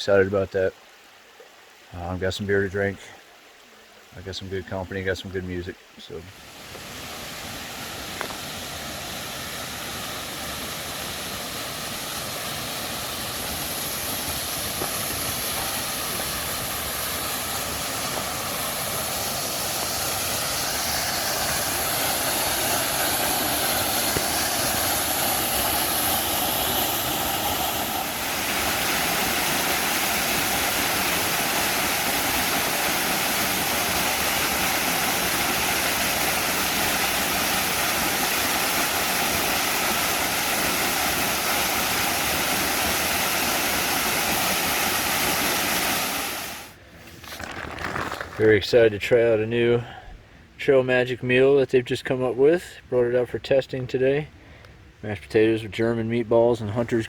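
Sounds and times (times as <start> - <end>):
creek water rushing: 0.0 - 46.9.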